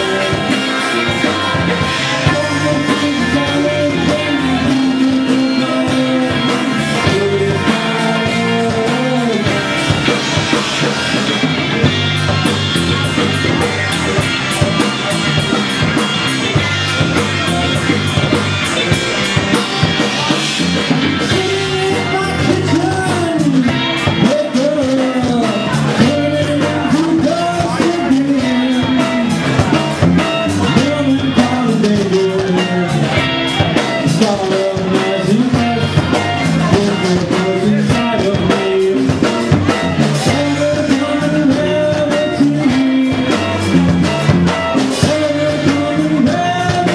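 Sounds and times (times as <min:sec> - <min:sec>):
rock music: 0:00.0 - 0:46.9.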